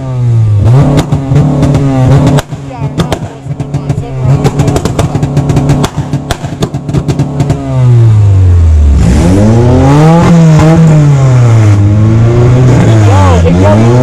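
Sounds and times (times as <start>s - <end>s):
car engine revving: 0.0s - 14.0s
exhaust popping and crackling: 0.0s - 14.0s.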